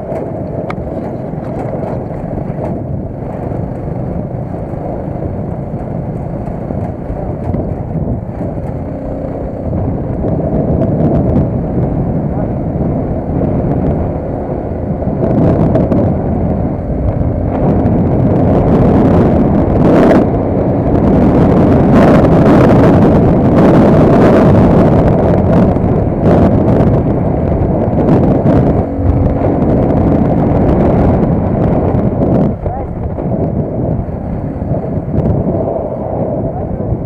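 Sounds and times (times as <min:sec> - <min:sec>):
vehicle engine and road noise: 0:00.0 - 0:37.0
wind on microphone: 0:00.0 - 0:37.0.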